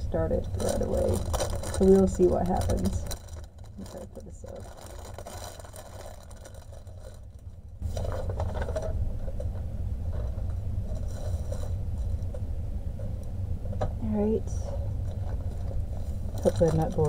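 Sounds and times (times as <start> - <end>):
steady low hum: 0.0 - 17.0
plastic bags rustling and crinkling: 0.1 - 12.3, 14.7 - 17.0.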